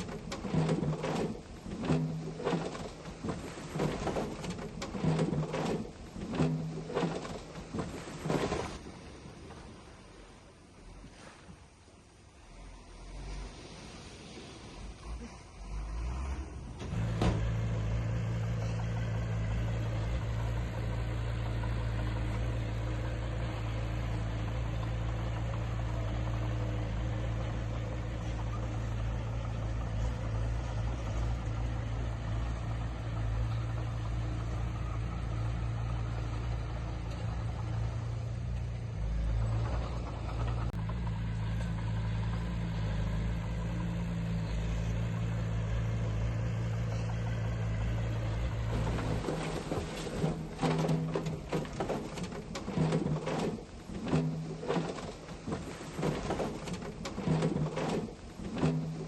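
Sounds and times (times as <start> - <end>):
heavy diesel engine droning: 0.0 - 9.3, 12.4 - 59.0.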